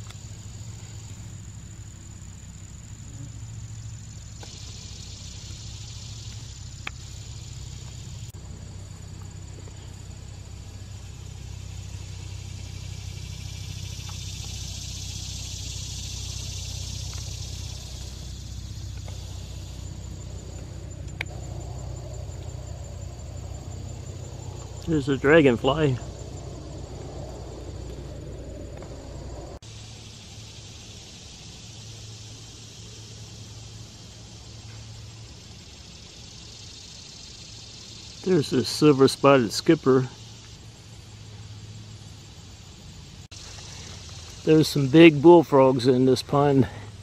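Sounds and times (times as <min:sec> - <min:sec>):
distant traffic rumble: 0:00.0 - 0:47.0
insect chorus trilling: 0:00.0 - 0:47.0.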